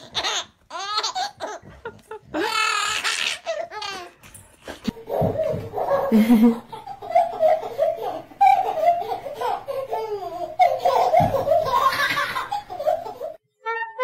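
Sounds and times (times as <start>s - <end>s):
baby laughing: 0.0s - 4.2s, 4.9s - 13.4s.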